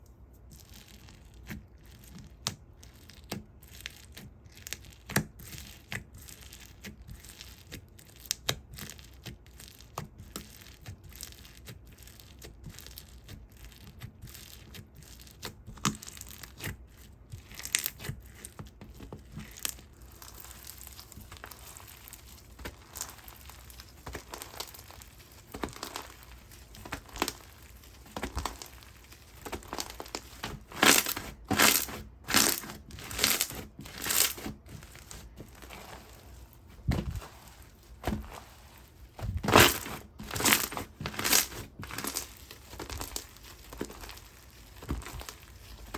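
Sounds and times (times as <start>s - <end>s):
slime clicking and crackling: 0.3s - 45.9s.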